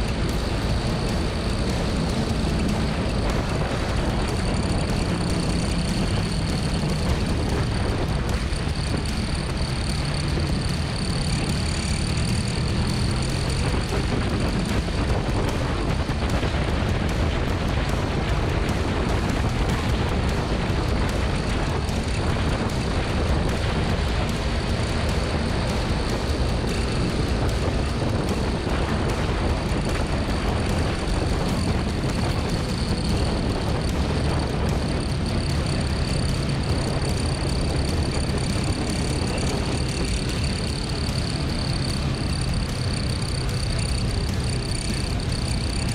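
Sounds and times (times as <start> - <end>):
motorcycle engine running: 0.0 - 45.9
wind rush on microphone: 0.0 - 45.9.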